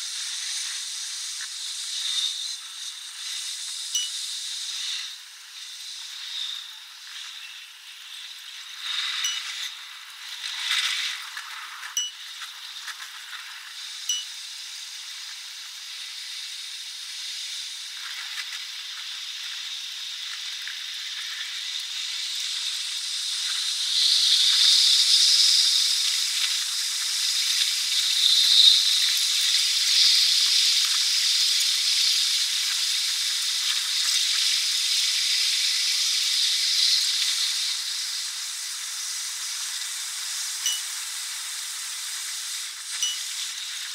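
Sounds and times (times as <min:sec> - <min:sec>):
sped-up train noise hiss: 0:00.0 - 0:12.9, 0:13.5 - 0:43.9.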